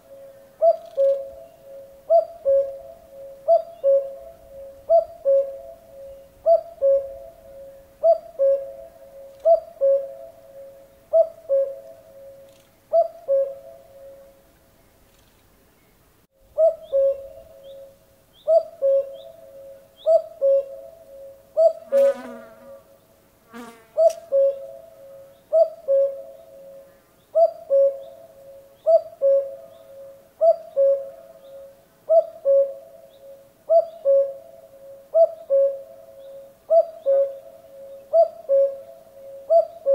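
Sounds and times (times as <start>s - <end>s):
cuckoo calling: 0.0s - 14.4s, 16.6s - 21.9s, 24.0s - 39.9s.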